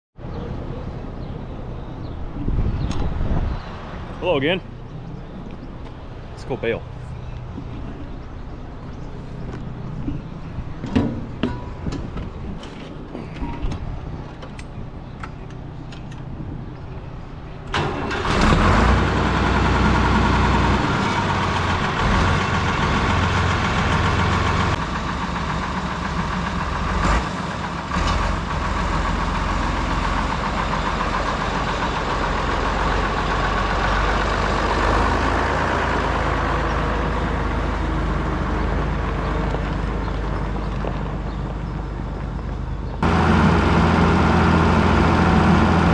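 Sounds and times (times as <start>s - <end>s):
tractor diesel engine running: 4.2s - 45.9s.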